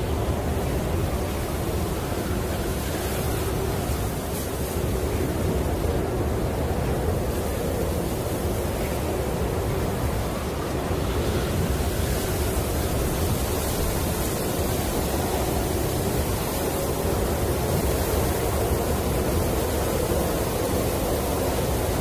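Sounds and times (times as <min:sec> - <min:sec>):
snowstorm wind blowing: 0:00.0 - 0:22.0.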